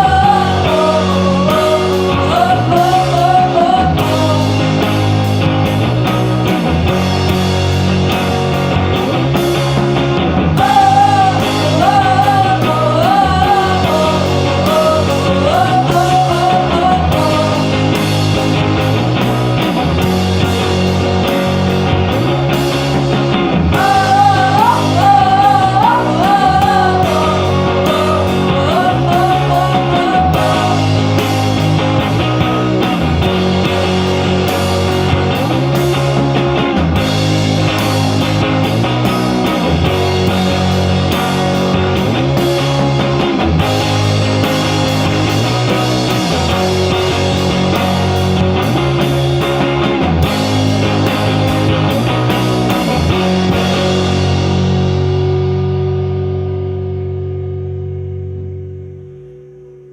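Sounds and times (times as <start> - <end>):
lead melody line: 0.0 - 59.9
rock song with guitars and drums: 0.0 - 59.9.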